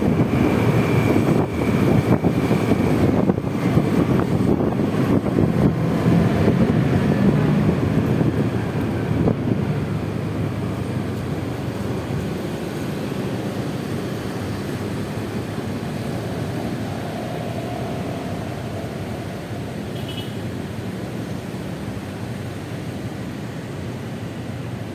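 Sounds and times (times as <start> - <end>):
wind rushing over microphone: 0.0 - 23.1
road noise: 0.0 - 24.9.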